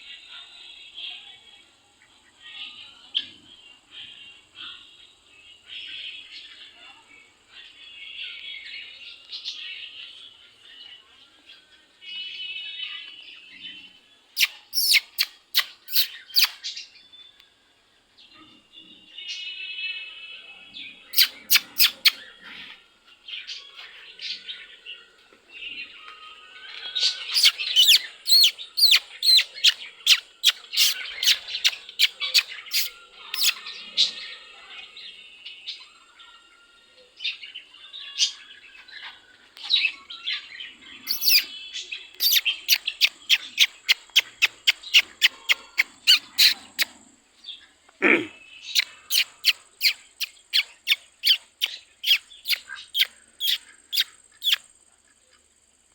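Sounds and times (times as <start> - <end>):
soft bird chirping: 8.0 - 17.5, 18.3 - 55.9.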